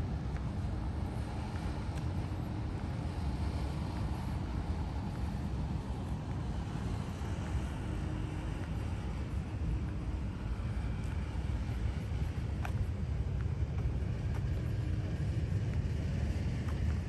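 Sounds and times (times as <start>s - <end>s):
street low rumble: 0.0s - 17.0s.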